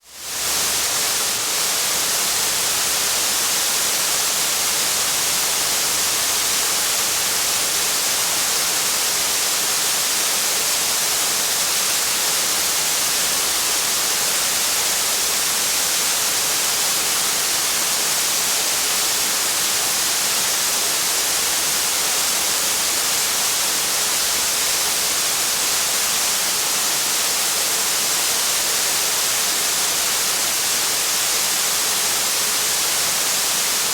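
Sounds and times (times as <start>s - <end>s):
heavy rain: 0.1s - 33.9s.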